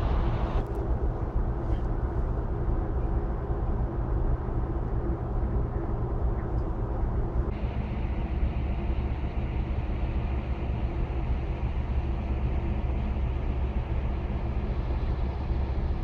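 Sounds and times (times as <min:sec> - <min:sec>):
ship machinery hum: 0:00.0 - 0:16.0.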